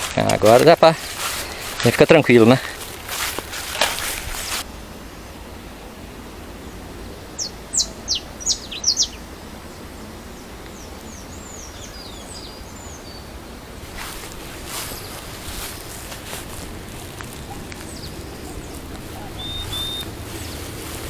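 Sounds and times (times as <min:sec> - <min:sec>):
birds calling: 0:00.0 - 0:04.6, 0:06.6 - 0:21.0
open-air background noise: 0:00.0 - 0:21.0.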